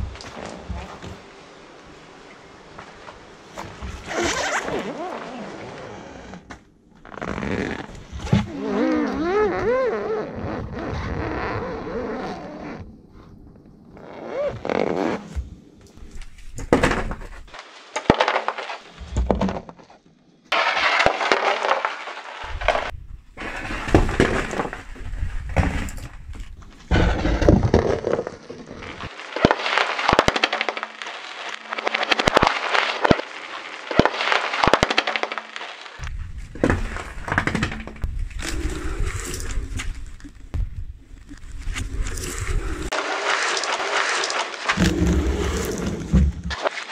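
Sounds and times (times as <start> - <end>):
tyre crushing plastic: 3.6 - 12.2, 14.5 - 46.9.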